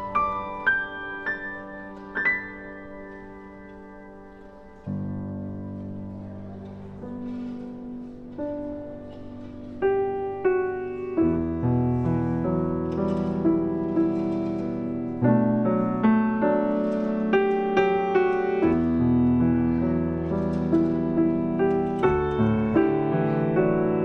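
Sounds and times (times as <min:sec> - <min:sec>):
grand piano slow piece: 0:00.0 - 0:24.0.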